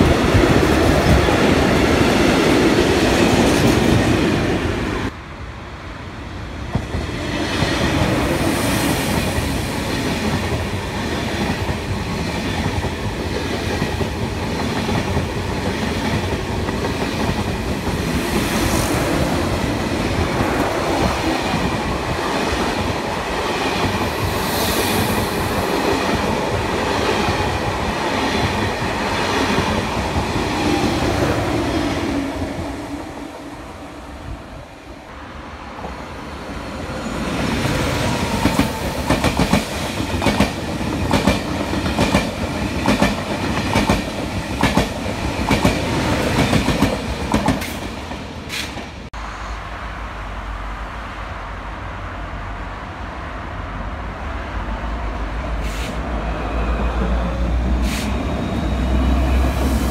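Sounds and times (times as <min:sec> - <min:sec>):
freight train wagons passing: 0:00.0 - 0:59.9
high-speed train passing: 0:00.0 - 0:59.9.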